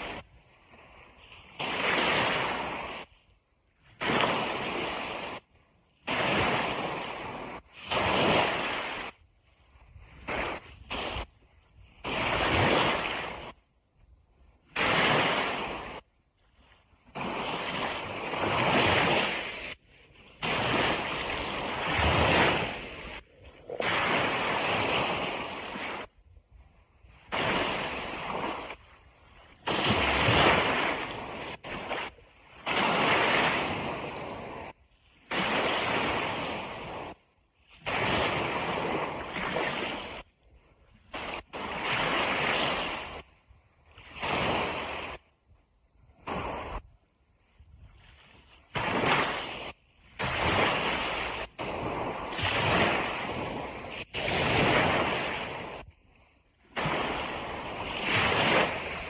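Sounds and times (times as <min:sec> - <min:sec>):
ocean surf washing on beach: 0:00.0 - 0:59.0.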